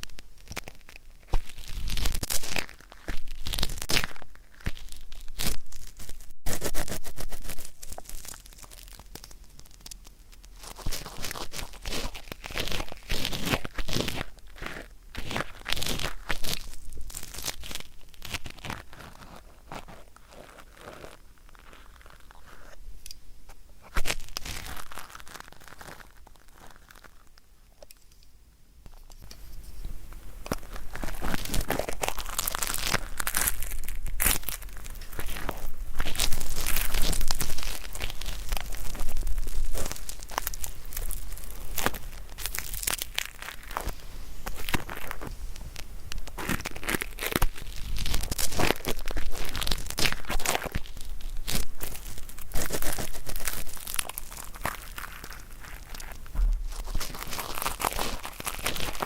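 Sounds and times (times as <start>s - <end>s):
ear-cleaning tool scraping and crackling: 0.0s - 59.0s.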